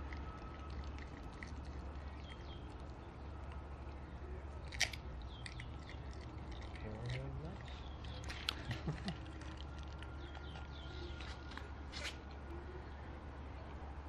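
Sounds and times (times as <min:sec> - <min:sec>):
dog chewing and crunching: 0:00.0 - 0:12.1
steady low hum: 0:00.0 - 0:14.0.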